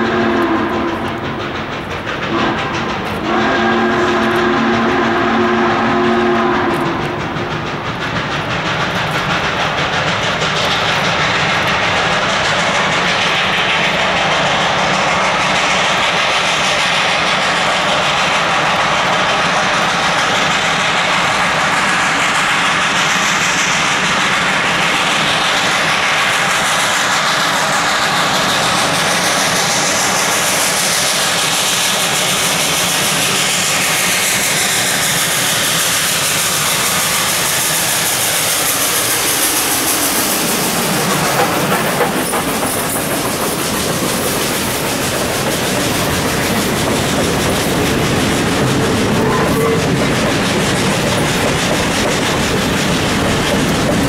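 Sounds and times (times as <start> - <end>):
steam locomotive working hard: 0.0 - 54.0
wheels clicking over rail joints: 0.0 - 54.0.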